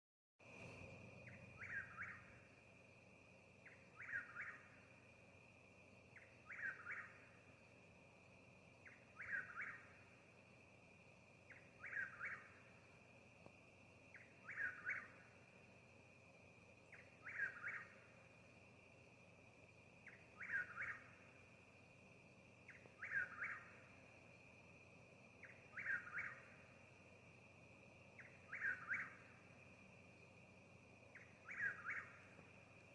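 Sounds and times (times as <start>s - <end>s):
steady high hum: 0.4s - 31.4s
nightjar calling: 0.5s - 2.7s, 3.6s - 5.4s, 6.0s - 8.0s, 8.6s - 10.4s, 11.3s - 13.1s, 14.0s - 15.8s, 16.4s - 18.5s, 19.2s - 32.9s.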